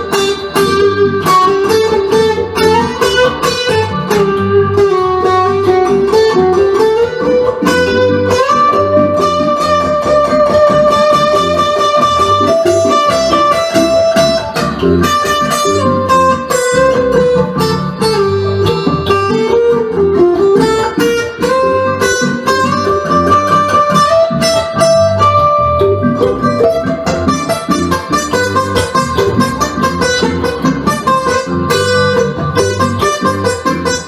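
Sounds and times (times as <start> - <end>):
bass notes: 0.0 - 34.0
blues guitar melody: 0.0 - 34.0.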